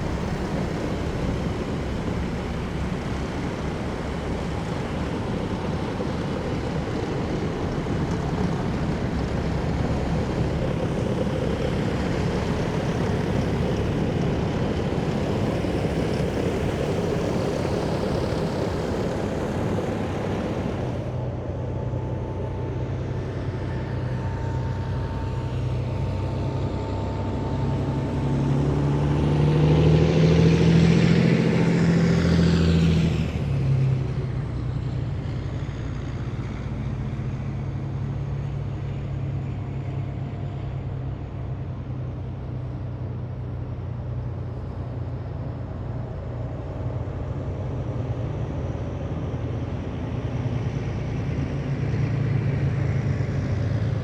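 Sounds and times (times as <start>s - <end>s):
heavy vehicles driving past: 0.0s - 54.0s.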